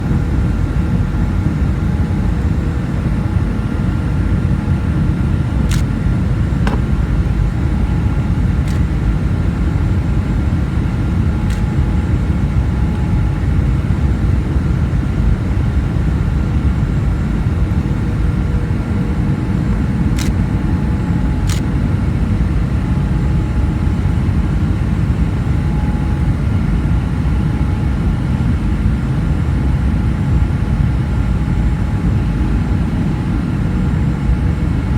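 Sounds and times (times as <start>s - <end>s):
airliner engines rumbling: 0.0s - 34.9s.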